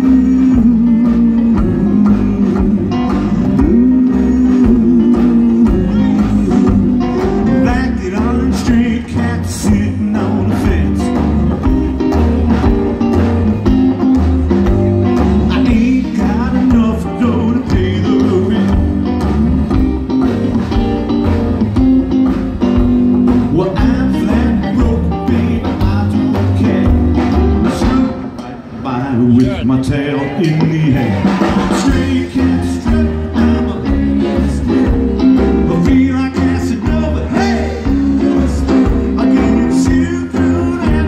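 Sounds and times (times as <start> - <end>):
man singing: 0.0 - 12.1, 15.0 - 19.9, 23.3 - 41.0
slapped upright bass: 0.0 - 28.4, 30.4 - 41.0
electric guitar: 0.0 - 41.0
rockabilly band playing: 0.0 - 41.0.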